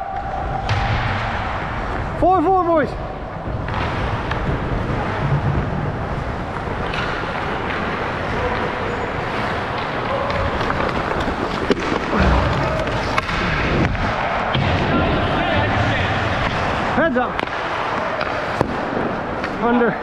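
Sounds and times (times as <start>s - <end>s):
skates scraping on ice: 3.4s - 20.0s.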